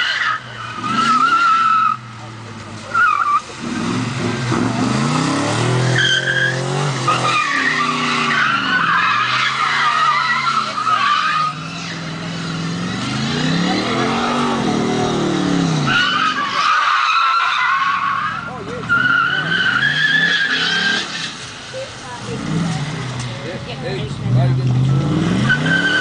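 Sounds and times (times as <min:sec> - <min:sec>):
tyres squealing: 0:00.0 - 0:23.4, 0:24.8 - 0:26.0
car engine revving: 0:00.0 - 0:26.0.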